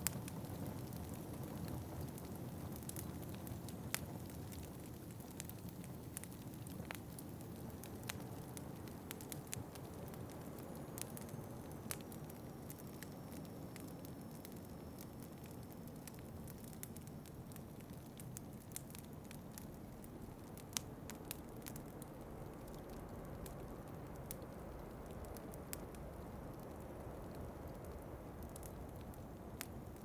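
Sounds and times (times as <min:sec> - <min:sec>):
fire popping: 0:00.0 - 0:30.0
wood fire crackling: 0:00.0 - 0:30.0.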